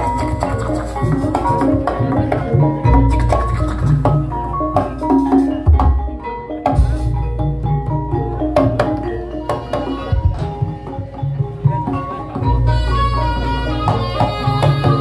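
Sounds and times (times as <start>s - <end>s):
hand drums: 0.0s - 15.0s
pitched mallet percussion ringing: 0.0s - 15.0s.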